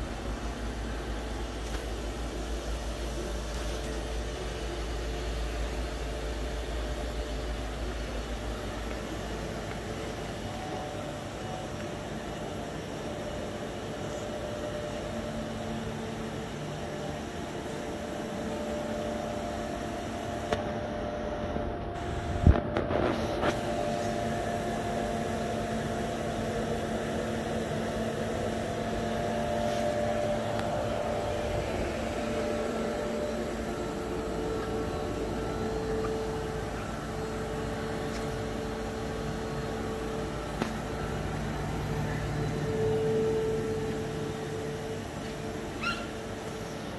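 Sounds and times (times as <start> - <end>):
machine motor and fan hum: 0.0 - 46.9.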